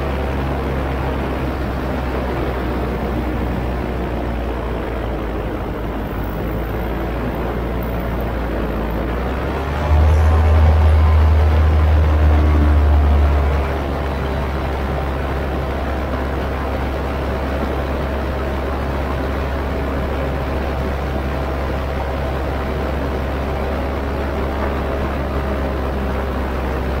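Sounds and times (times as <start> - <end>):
paramotor engine droning: 0.0 - 27.0.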